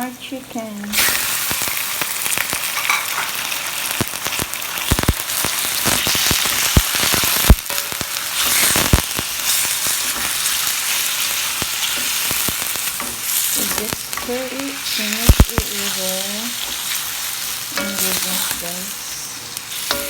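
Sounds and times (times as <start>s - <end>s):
chicken sizzling in hot oil: 0.7s - 20.0s.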